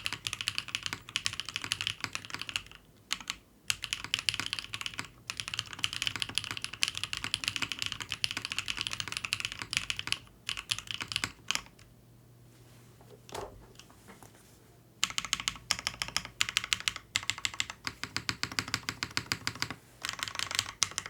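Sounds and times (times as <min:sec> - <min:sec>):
mechanical keyboard typing: 0:00.0 - 0:11.7, 0:15.0 - 0:21.0.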